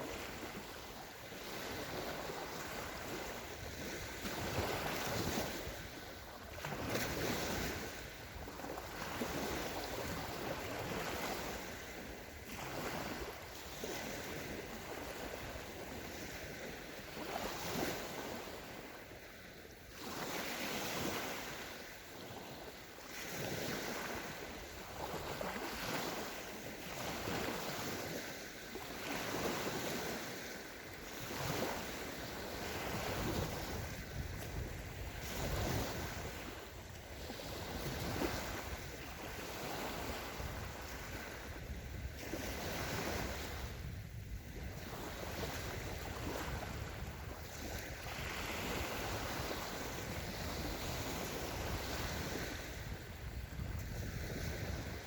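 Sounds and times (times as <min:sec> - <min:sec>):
small waves breaking on shore: 0:00.0 - 0:55.0.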